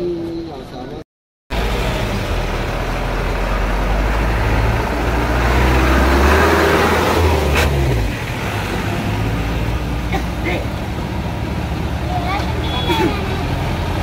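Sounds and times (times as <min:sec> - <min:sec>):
road noise: 0:00.0 - 0:14.0
vehicle engine running: 0:01.5 - 0:14.0.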